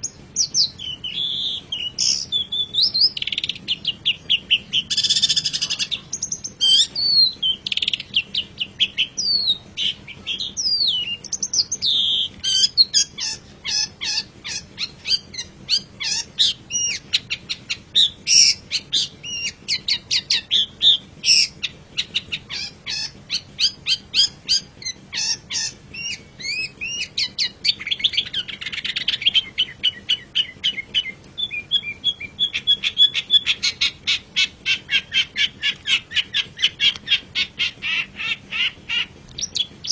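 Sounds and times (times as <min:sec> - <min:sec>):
harsh rasping bird call: 0:00.0 - 0:39.9
shrike whistling and chattering: 0:00.0 - 0:39.9.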